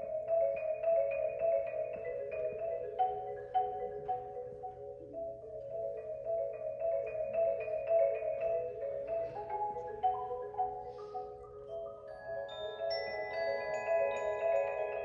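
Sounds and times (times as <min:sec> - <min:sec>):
bell-like notes: 0:00.0 - 0:15.0.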